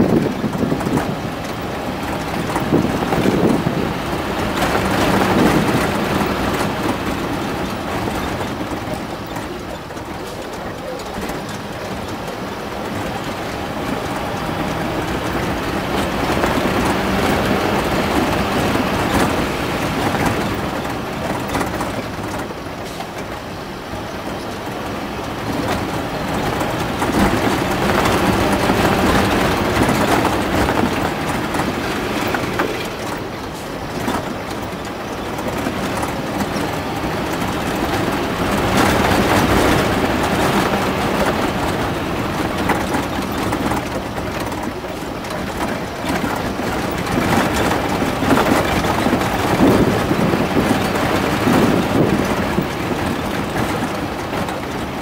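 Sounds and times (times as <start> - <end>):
rattle and road noise: 0.0 - 55.0
truck engine running: 0.0 - 55.0.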